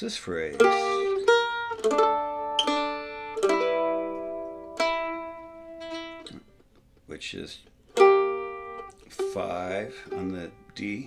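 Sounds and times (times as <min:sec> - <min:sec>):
mandolin melody: 0:00.0 - 0:06.8, 0:07.8 - 0:11.0.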